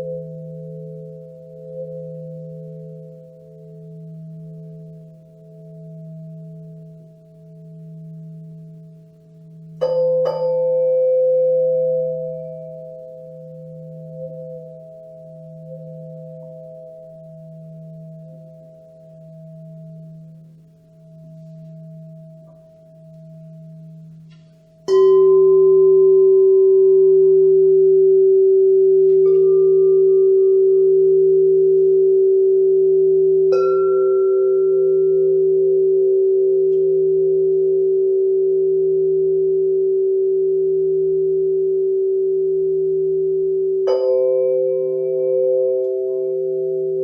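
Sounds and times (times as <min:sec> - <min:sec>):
low wavering singing bowl tone: 0:00.0 - 0:47.0
singing bowl struck and ringing: 0:00.0 - 0:47.0.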